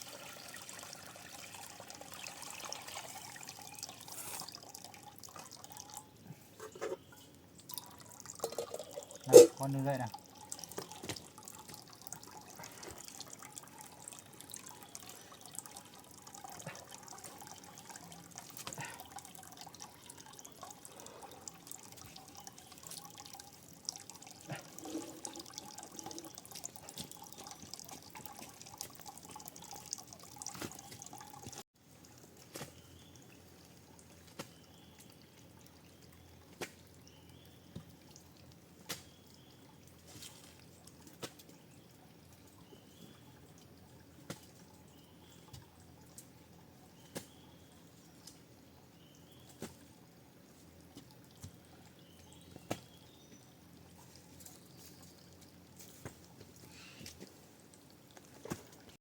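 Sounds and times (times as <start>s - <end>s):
water dripping and trickling: 0.0s - 6.4s, 7.0s - 59.0s.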